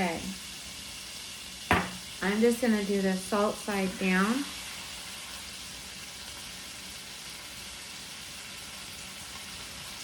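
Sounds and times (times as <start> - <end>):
steaks sizzling in a pan: 0.0 - 10.0.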